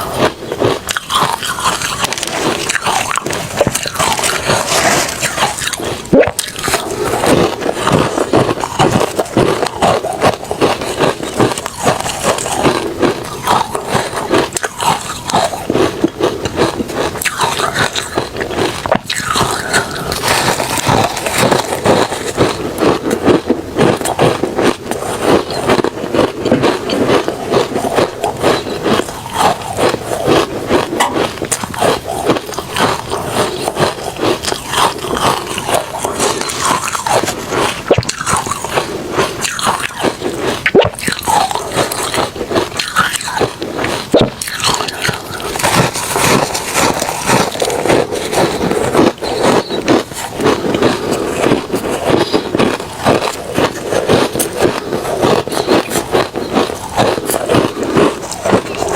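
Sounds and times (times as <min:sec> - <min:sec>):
ice being chewed: 0:00.0 - 0:58.9.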